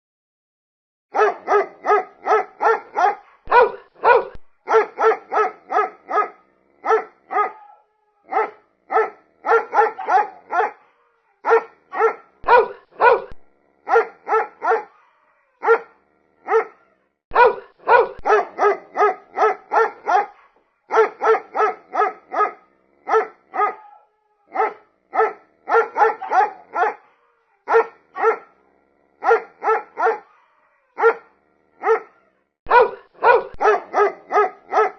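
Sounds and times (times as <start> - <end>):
dog barking: 1.1 - 34.9.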